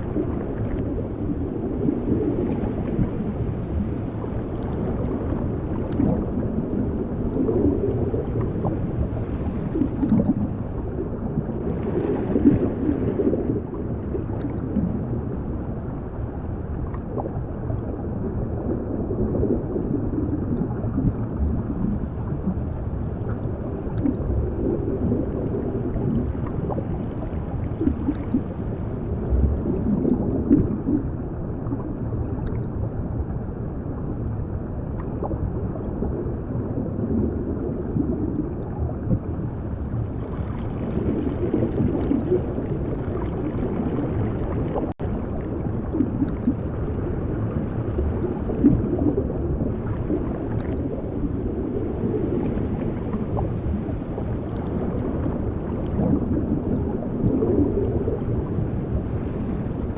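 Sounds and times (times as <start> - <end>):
underwater bubbling and gurgling: 0.0 - 59.9.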